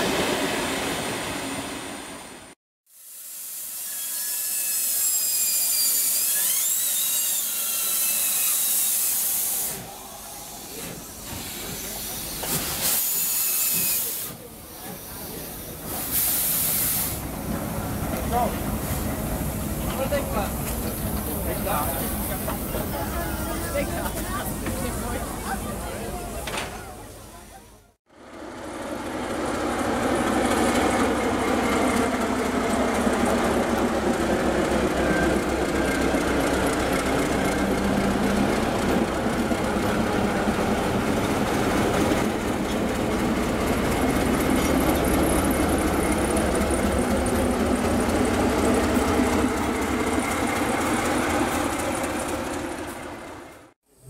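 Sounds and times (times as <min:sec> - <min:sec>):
diesel locomotive engine rumbling: 0:09.7 - 0:13.0, 0:13.7 - 0:53.8.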